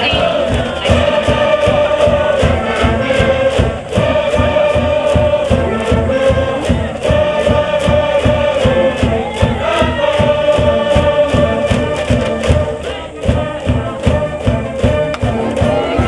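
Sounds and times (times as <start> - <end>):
cheering band brass: 0.0 - 16.0
crowd chanting in unison: 0.0 - 16.0
steady drumbeat: 0.0 - 16.0.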